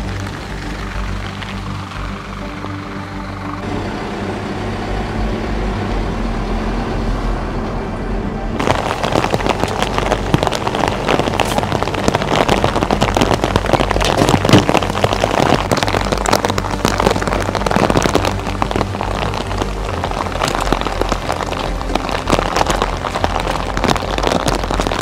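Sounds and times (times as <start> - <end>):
heavy rain on metal and ground: 0.0 - 4.9, 8.6 - 25.0
low engine hum: 0.0 - 25.0.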